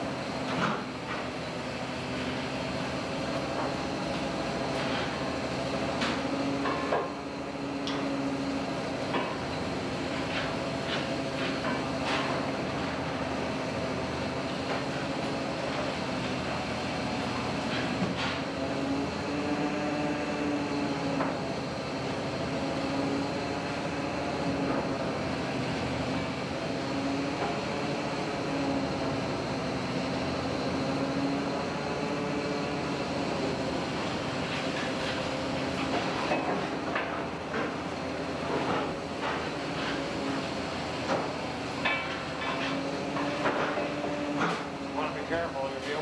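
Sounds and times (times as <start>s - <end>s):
boat engine drone: 0.0s - 45.8s.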